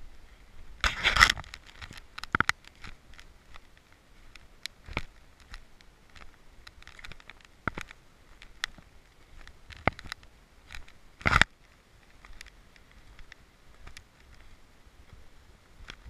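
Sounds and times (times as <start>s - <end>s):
footsteps on a dirt trail: 0.0s - 16.0s
leaves and twigs crackling: 0.0s - 16.0s.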